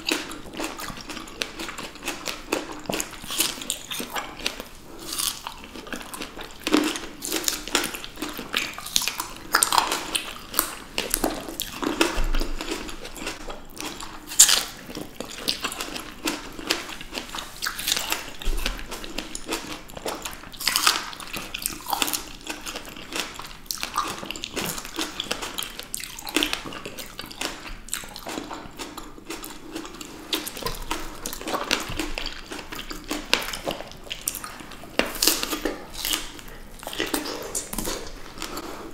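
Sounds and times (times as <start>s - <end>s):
chewing and biting fruit: 0.0s - 38.9s.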